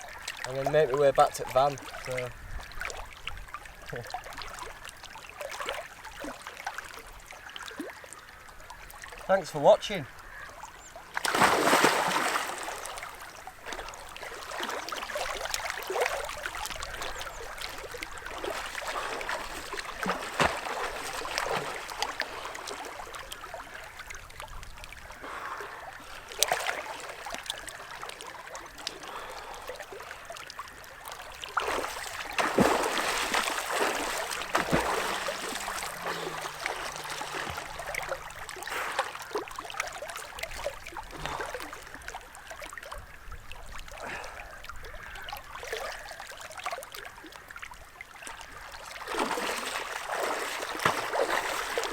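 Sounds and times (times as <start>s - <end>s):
water splashing from swimming: 0.0s - 51.9s.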